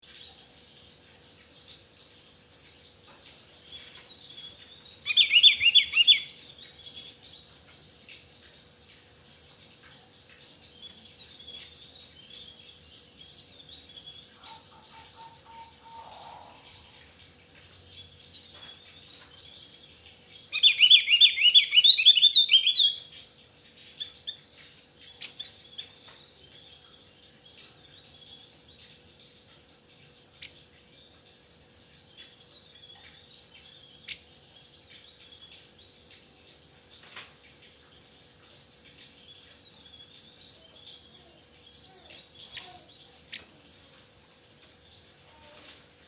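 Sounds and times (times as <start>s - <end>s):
songbird chirping: 2.4s - 46.0s.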